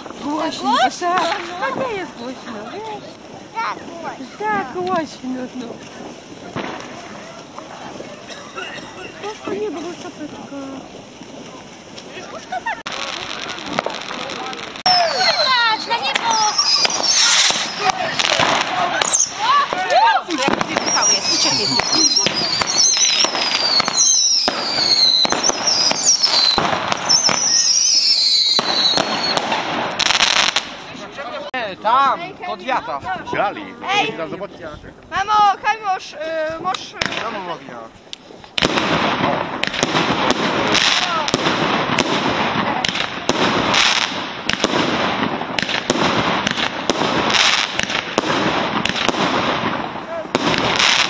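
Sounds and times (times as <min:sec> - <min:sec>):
fireworks bangs and cracks: 0:00.0 - 0:51.0
fireworks whistling: 0:00.0 - 0:51.0.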